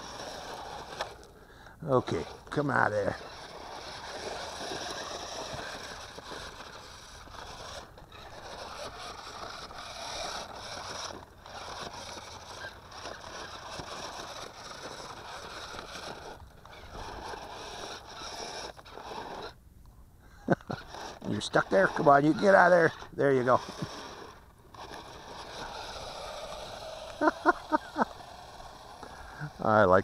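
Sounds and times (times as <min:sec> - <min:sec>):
toy car motors and gears whirring: 0:00.0 - 0:19.6, 0:20.2 - 0:30.0
wheels over gravel and rocks: 0:00.0 - 0:30.0.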